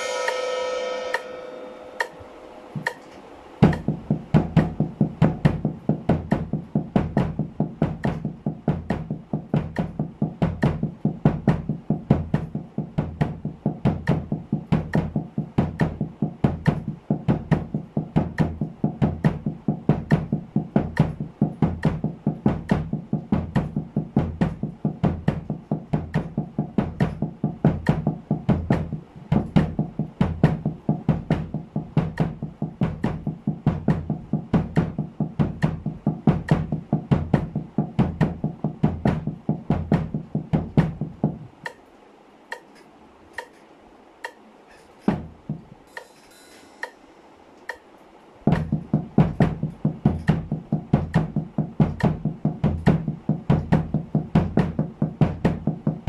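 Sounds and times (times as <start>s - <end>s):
drumsticks on muffled snare drum: 2.0s - 41.9s, 42.5s - 56.0s
bass drum kicks: 3.6s - 41.5s, 45.1s - 45.8s, 48.5s - 56.0s.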